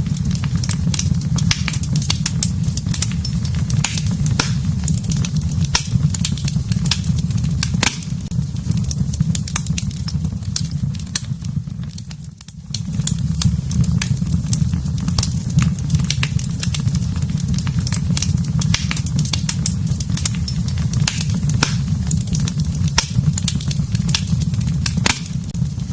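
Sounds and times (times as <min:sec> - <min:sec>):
fire popping and snapping: 0:00.0 - 0:25.9
low rumble of fire: 0:00.0 - 0:25.9
wood fire crackling: 0:00.0 - 0:25.9.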